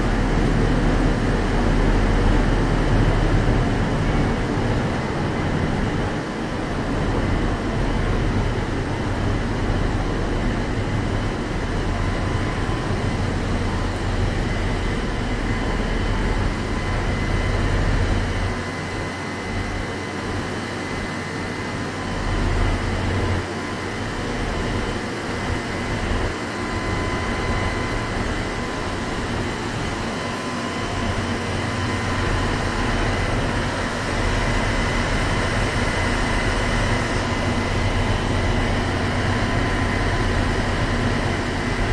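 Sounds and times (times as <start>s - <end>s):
faint high whine: 0.0s - 41.9s.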